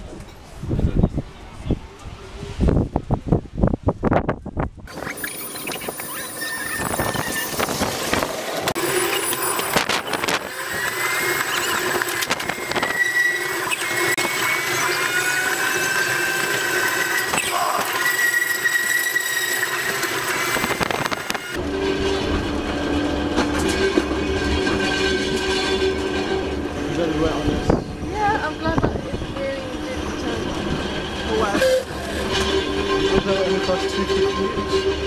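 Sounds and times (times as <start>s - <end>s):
steel wheels squealing on track: 4.9s - 35.0s.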